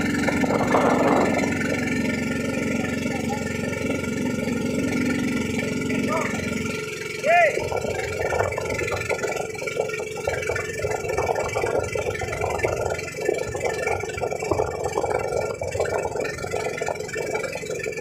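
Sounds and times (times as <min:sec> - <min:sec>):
boat engine running: 0:00.0 - 0:18.0
rush of water and air: 0:00.0 - 0:18.0.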